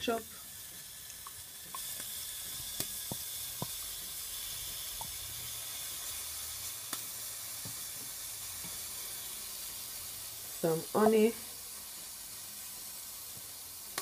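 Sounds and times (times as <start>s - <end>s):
pan juices boiling in a pot: 0.0s - 14.0s.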